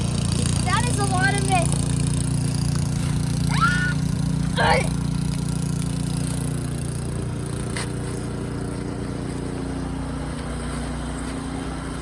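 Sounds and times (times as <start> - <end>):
snow blower engine running: 0.0 - 12.0.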